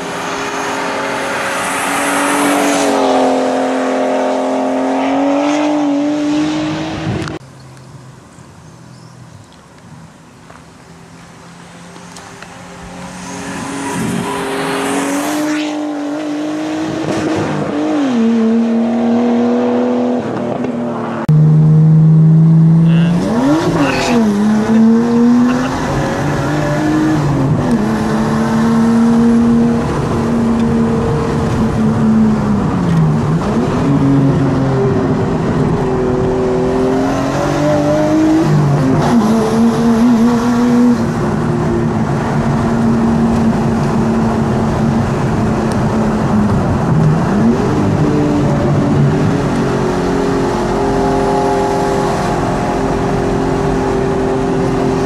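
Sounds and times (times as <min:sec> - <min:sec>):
car engine revving hard: 0:00.0 - 0:07.4, 0:13.0 - 0:55.0.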